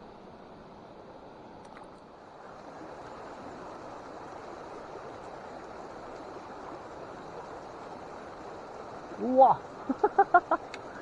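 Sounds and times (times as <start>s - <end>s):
mountain stream flowing: 0.0s - 11.0s.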